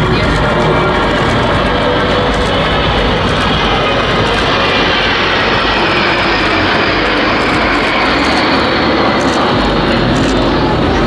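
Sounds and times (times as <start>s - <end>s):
jet planes flying past: 0.0s - 11.0s.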